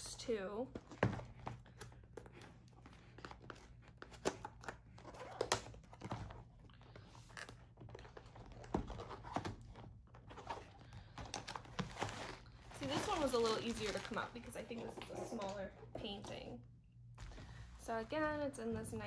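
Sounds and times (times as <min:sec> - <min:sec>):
cardboard rustling: 0:00.7 - 0:16.6.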